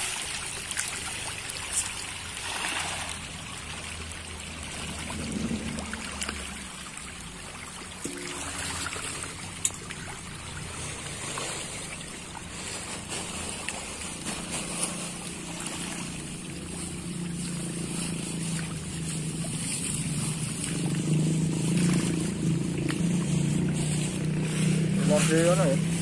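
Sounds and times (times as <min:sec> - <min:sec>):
fish thrashing and splashing: 0:00.0 - 0:26.0
steady engine hum: 0:01.1 - 0:26.0.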